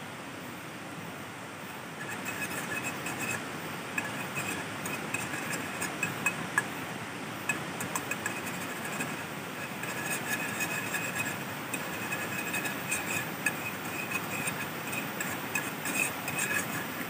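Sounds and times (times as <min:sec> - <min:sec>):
eggs sizzling in pan: 0:02.0 - 0:06.7, 0:07.4 - 0:17.0
fork scraping frying pan: 0:02.0 - 0:06.7, 0:07.4 - 0:17.0.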